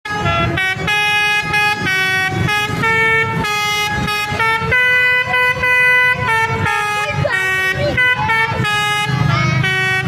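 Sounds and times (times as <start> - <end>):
multi-tone musical air horn: 0.1 - 10.0.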